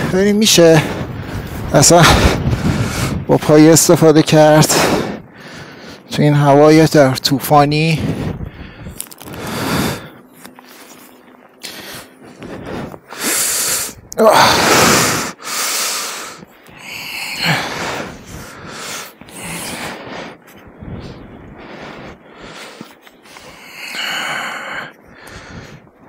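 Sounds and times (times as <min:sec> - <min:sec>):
wind buffeting microphone: 0:00.0 - 0:10.3, 0:12.2 - 0:15.4, 0:16.3 - 0:23.6, 0:24.9 - 0:26.0.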